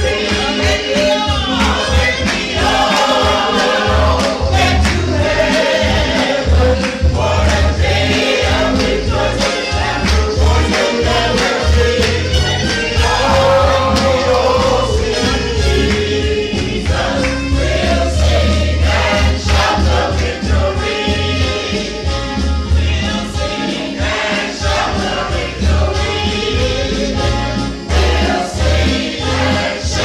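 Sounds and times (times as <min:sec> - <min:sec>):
band playing: 0:00.0 - 0:30.0
bass beat: 0:00.0 - 0:30.0
gospel choir singing: 0:00.0 - 0:30.0.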